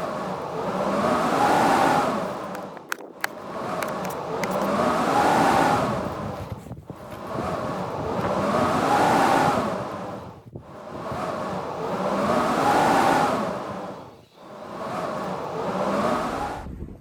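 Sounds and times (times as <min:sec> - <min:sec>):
howling blizzard wind gusts: 0:00.0 - 0:17.0.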